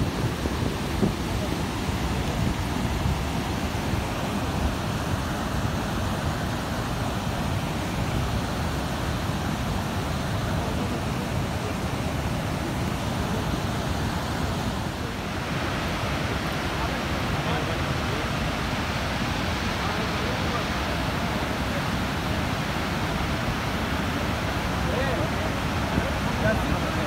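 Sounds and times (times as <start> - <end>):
river torrent rushing: 0.0 - 27.0.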